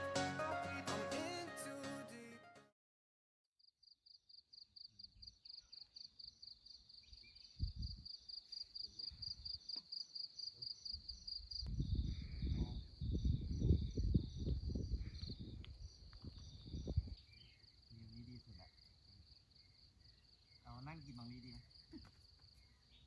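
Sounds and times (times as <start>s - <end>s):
insect chirping: 3.8s - 23.0s.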